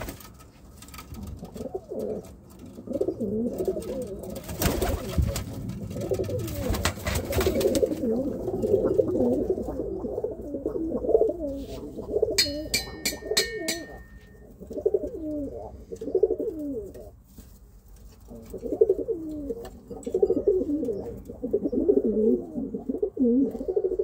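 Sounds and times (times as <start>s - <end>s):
pigeons cooing: 1.2s - 17.2s, 18.2s - 24.0s.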